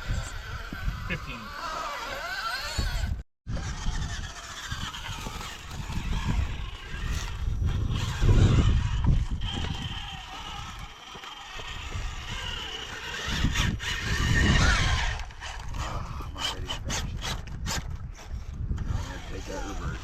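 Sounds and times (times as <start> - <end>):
wind gusts on microphone: 0.0 - 20.0.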